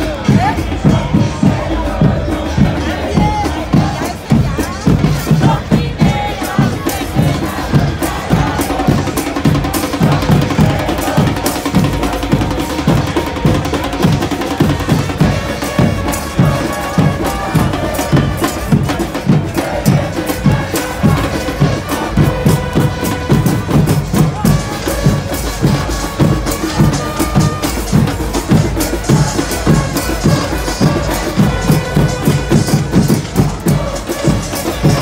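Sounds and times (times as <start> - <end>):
bass drum beating: 0.0 - 35.0
stadium crowd chanting: 0.0 - 35.0.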